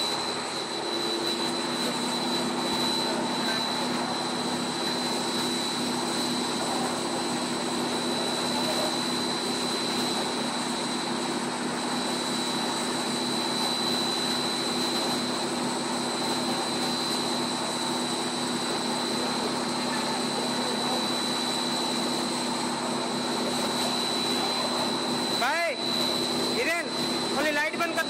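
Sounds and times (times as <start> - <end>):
high machine whine: 0.0 - 28.0
machine drone: 0.0 - 28.0.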